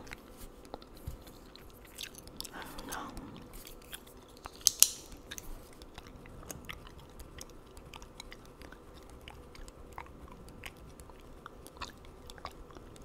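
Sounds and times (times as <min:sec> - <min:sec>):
gum chewing with open mouth: 0:00.0 - 0:13.0.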